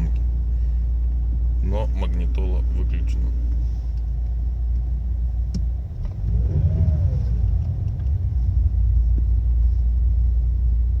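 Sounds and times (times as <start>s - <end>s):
diesel engine rumble from inside car: 0.0s - 11.0s.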